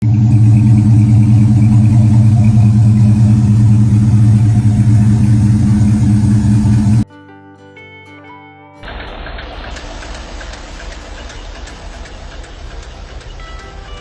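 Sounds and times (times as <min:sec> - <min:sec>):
car engine idling: 0:00.0 - 0:07.0, 0:08.8 - 0:14.0.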